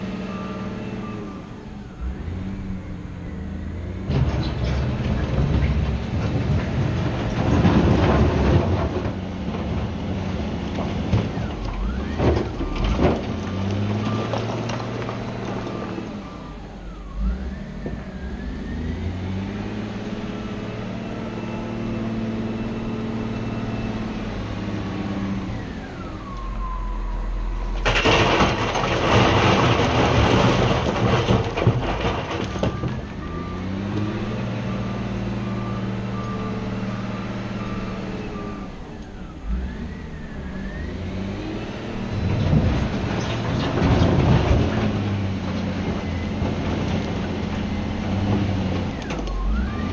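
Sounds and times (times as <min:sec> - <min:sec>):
wheel loader diesel engine revving: 0:00.0 - 0:49.9.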